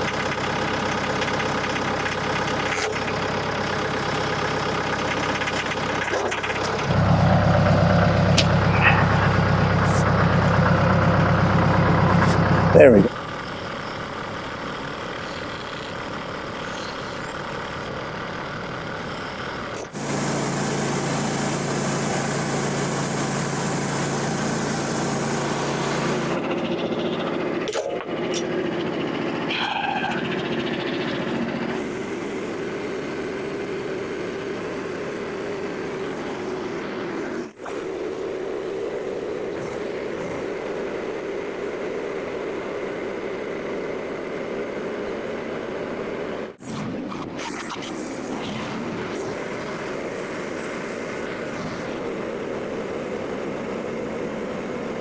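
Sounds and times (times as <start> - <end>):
small gasoline engine running: 0.0 - 46.6, 47.6 - 55.0.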